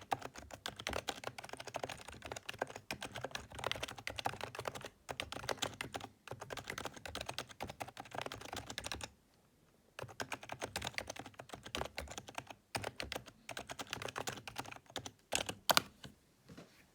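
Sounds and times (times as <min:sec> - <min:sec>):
keyboard typing: 0:00.0 - 0:09.1, 0:10.0 - 0:16.1.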